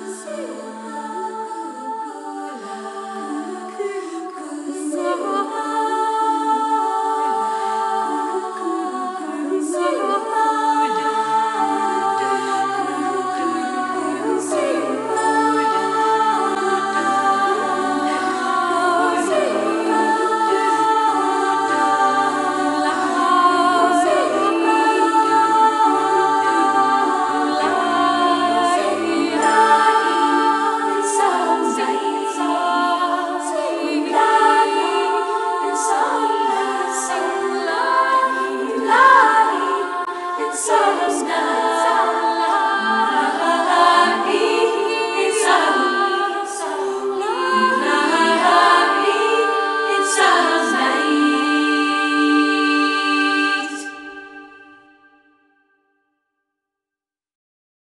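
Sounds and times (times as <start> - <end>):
choir singing a cappella: 0.0 - 55.4.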